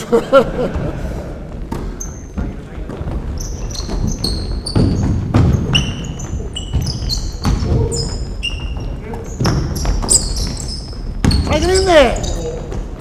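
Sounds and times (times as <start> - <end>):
sneakers squeaking: 1.5 - 13.0
basketball bouncing on hardwood: 1.7 - 13.0.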